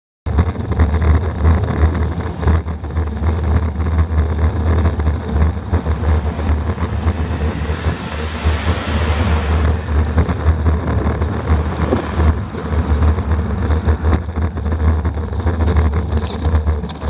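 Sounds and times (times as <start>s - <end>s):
tyre road rumble: 0.2s - 17.0s
wind buffeting microphone: 0.3s - 17.0s.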